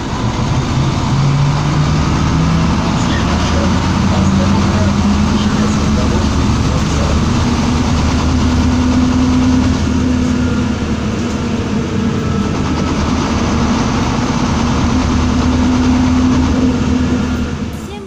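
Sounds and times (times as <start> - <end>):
bus engine hum: 0.0 - 18.0
road and body rumble: 0.0 - 18.0.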